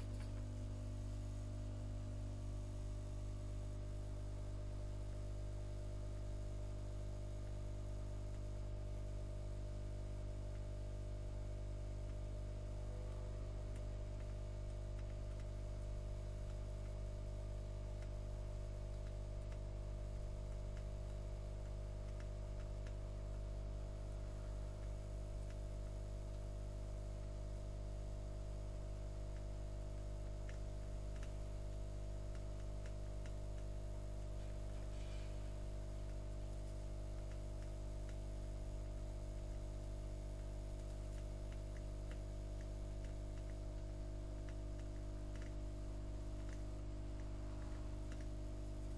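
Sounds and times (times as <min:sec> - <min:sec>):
faint ticks: 0:00.0 - 0:28.2, 0:29.3 - 0:48.9
low electrical hum: 0:00.0 - 0:48.9.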